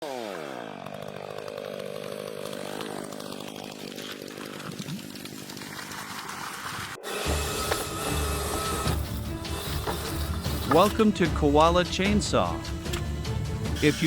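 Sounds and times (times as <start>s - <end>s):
chainsaw engine running: 0.0s - 6.1s, 7.0s - 14.0s.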